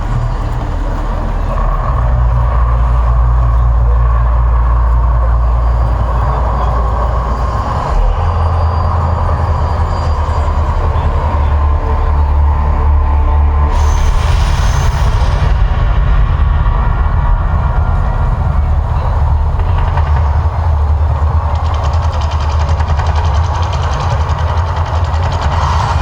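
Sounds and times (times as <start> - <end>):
deep loud rumbling: 0.0 - 26.0.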